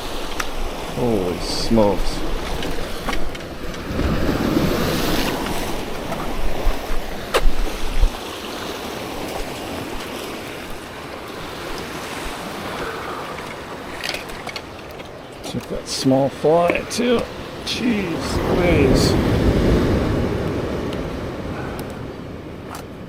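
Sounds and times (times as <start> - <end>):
surf washing against rocks: 0.0 - 23.0
wind buffeting microphone: 0.0 - 23.0.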